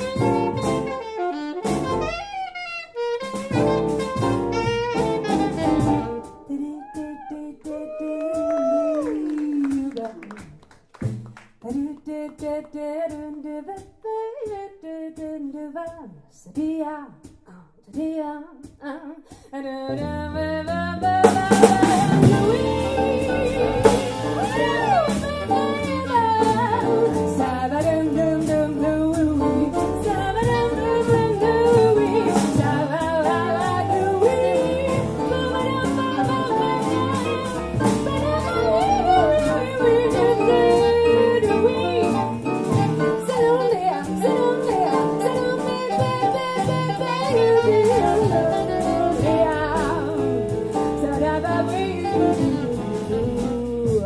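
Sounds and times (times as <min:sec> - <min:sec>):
jazz band playing: 0:00.0 - 0:10.6, 0:19.9 - 0:54.0
woman scat singing: 0:06.3 - 0:10.6, 0:11.6 - 0:54.0.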